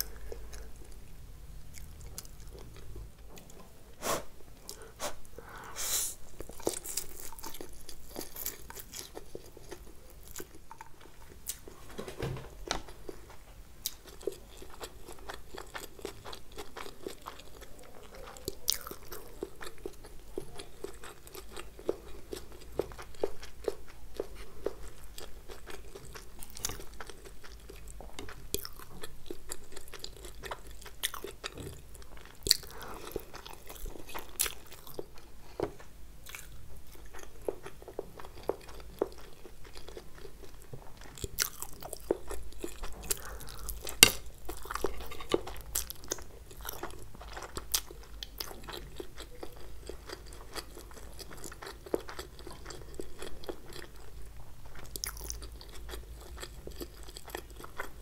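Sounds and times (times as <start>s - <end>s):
chewing and biting food: 6.3s - 11.8s, 12.7s - 58.0s.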